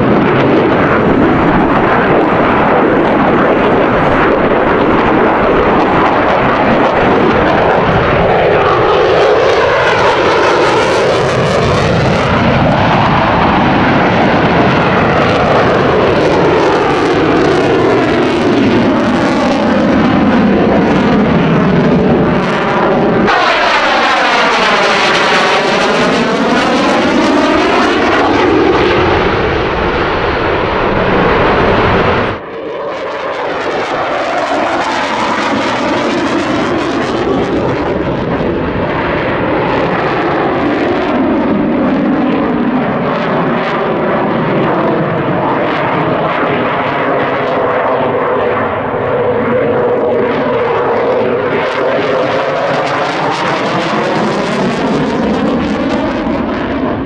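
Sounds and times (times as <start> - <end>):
distant jet noise: 0.0 - 57.0
jet flying past overhead: 0.0 - 57.0.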